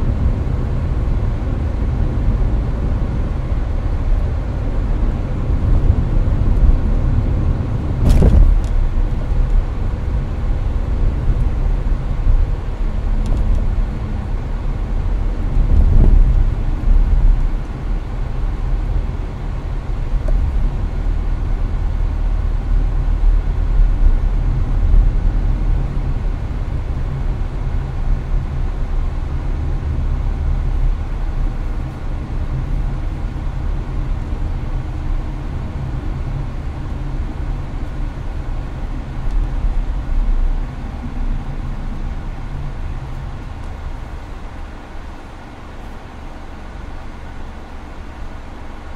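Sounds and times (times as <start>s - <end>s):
air conditioner blowing: 0.0s - 48.9s
road and tyre rumble: 0.0s - 48.9s.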